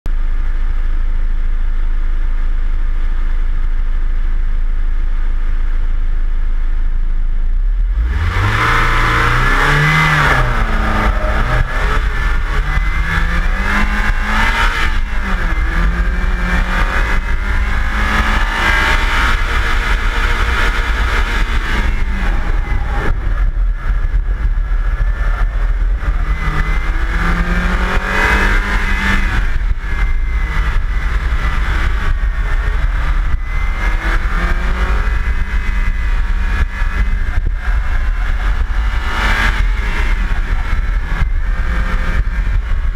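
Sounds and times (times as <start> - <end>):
car engine revving: 0.1 - 42.9.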